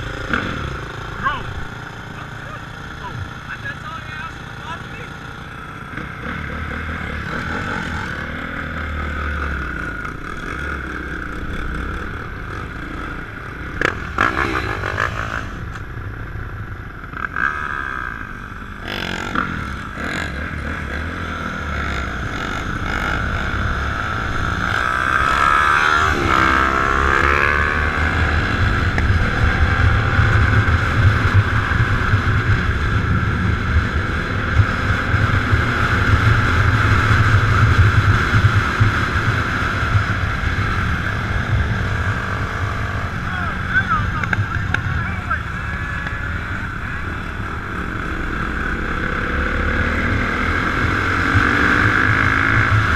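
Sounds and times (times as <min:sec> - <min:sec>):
dirt bike engines revving: 0:00.0 - 0:52.9.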